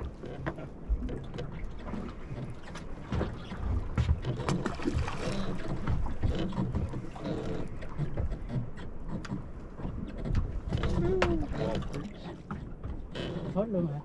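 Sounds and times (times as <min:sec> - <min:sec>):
water against boat hull: 0:00.0 - 0:14.0.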